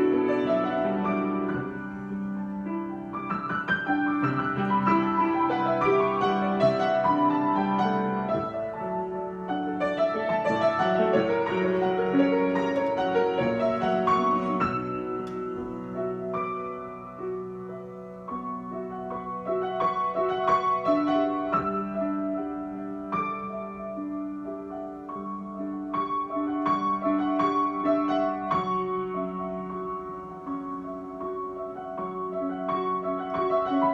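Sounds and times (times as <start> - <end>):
solo piano improvisation: 0.0 - 33.9.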